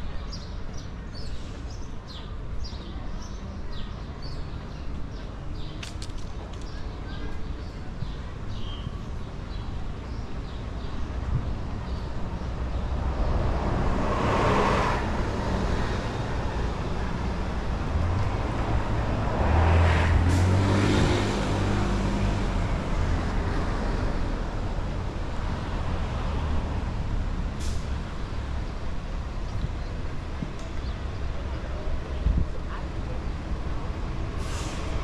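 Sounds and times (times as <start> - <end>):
low traffic rumble: 0.0 - 35.0
vehicles passing: 0.0 - 35.0.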